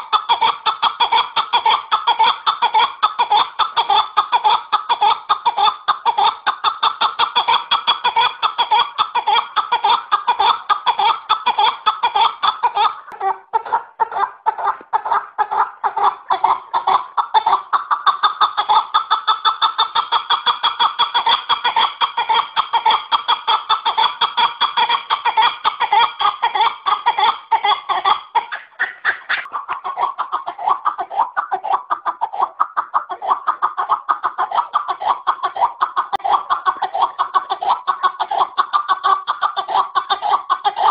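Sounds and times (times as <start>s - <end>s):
partridge chuck calls: 0.0s - 40.9s.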